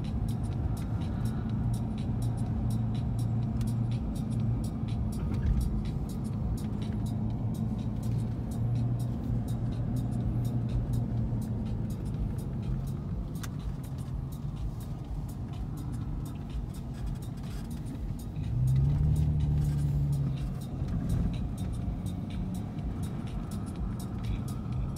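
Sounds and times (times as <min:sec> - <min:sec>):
car engine and road noise: 0:00.0 - 0:24.9.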